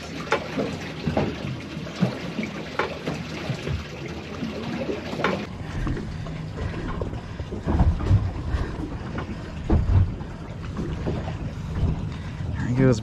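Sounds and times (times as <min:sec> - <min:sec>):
water washing against hull: 0:00.0 - 0:13.0.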